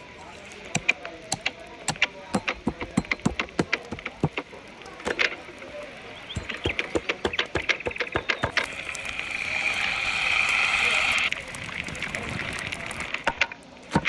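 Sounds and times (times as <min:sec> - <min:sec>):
water pouring and splashing: 0:00.0 - 0:14.0.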